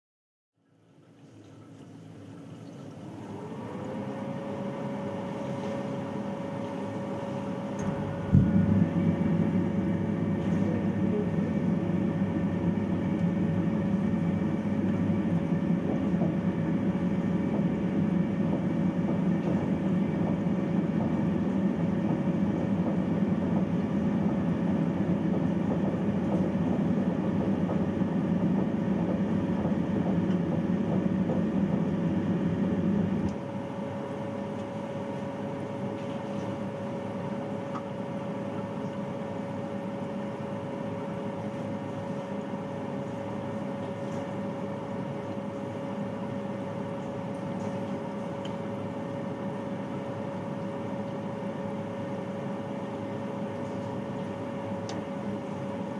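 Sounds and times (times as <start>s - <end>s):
boiler humming and rumbling: 0.6s - 55.9s.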